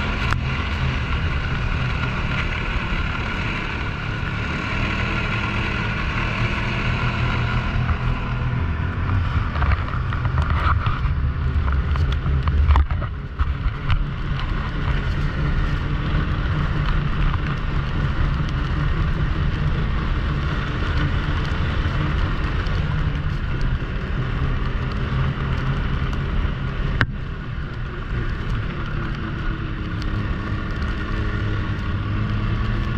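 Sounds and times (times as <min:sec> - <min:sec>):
snowmobile engine running: 0:00.0 - 0:32.9
wind noise on microphone: 0:00.0 - 0:32.9.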